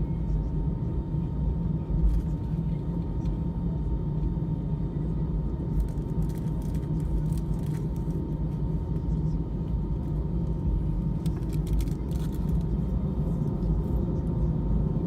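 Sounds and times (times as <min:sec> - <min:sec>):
airliner cabin engine rumble: 0:00.0 - 0:15.0
faint steady whine: 0:00.0 - 0:15.0.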